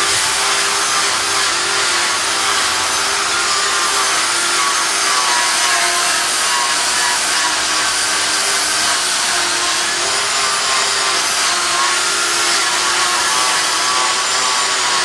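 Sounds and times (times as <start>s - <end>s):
electric sander motor: 0.0s - 15.0s.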